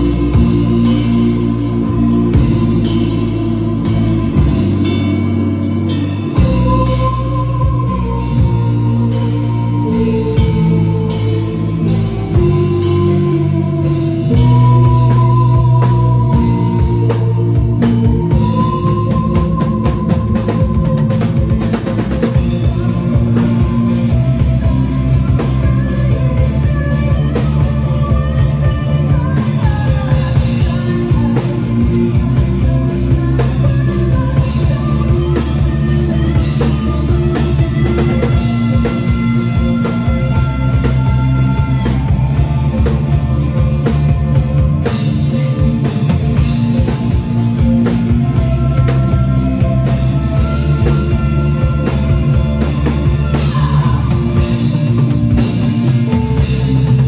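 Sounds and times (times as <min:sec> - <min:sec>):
drum kit beat: 0:00.0 - 0:57.0
guitar: 0:00.0 - 0:57.0
person singing: 0:00.0 - 0:57.0.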